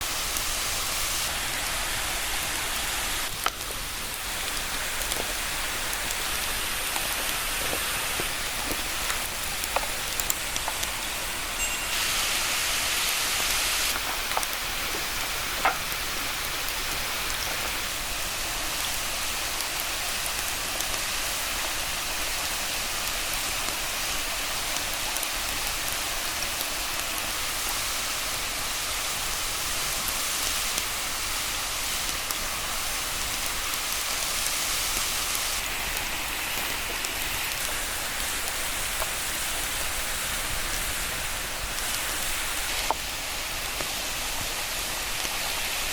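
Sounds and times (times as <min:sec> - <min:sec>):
waterfall hissing: 0:00.0 - 0:45.9.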